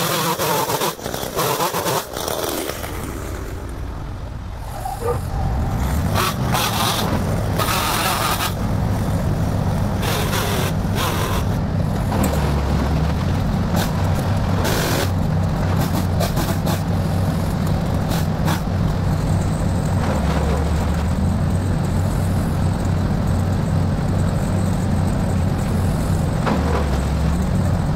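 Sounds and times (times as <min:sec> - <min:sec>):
heavy engine running: 0:00.0 - 0:27.9.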